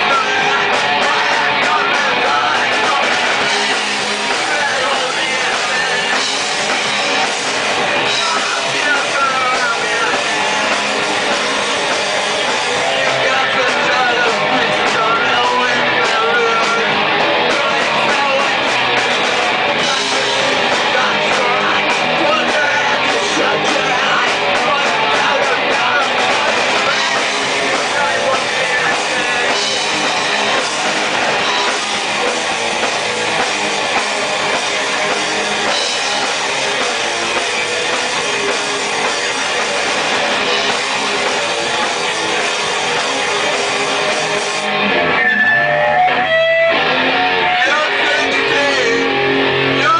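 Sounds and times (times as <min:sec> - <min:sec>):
rock band playing live: 0:00.0 - 0:49.9.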